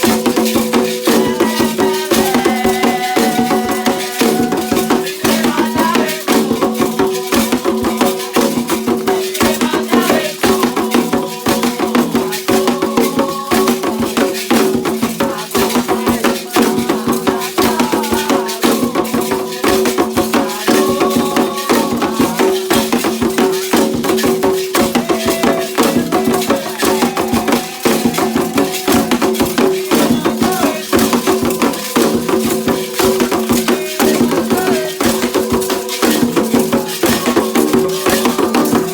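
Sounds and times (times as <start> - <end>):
hand drums: 0.0 - 38.9.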